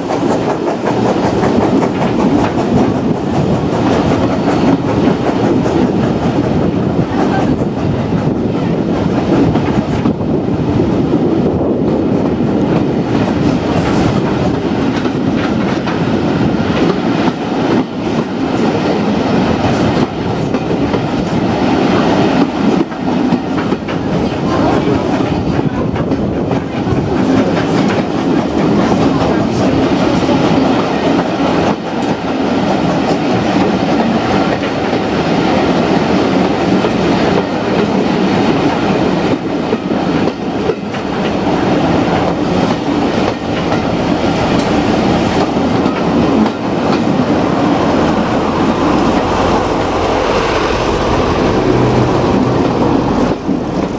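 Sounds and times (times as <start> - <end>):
wheels clacking over rail joints: 0.0 - 10.2, 12.6 - 53.9
train carriage rumble: 0.0 - 53.9.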